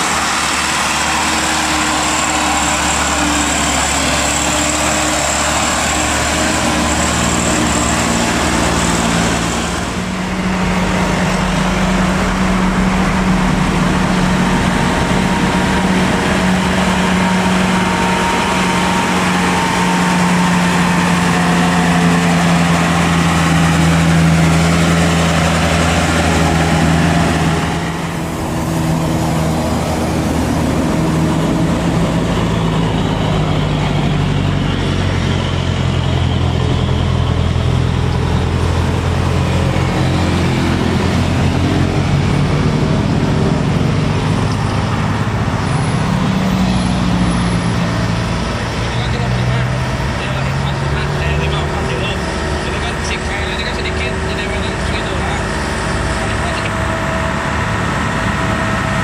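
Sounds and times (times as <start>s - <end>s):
diesel truck labouring uphill: 0.0s - 59.0s.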